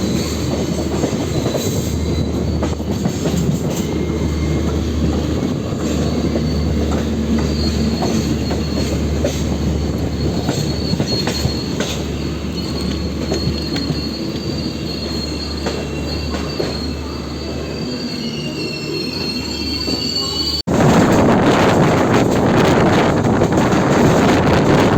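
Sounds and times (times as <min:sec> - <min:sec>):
high wheel squeal: 0:00.0 - 0:20.7
train rumbling on rails: 0:00.0 - 0:24.9.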